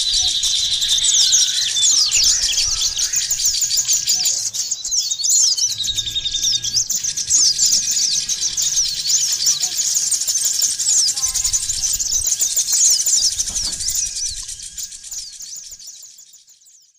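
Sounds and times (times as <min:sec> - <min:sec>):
songbirds chirping: 0:00.0 - 0:16.9.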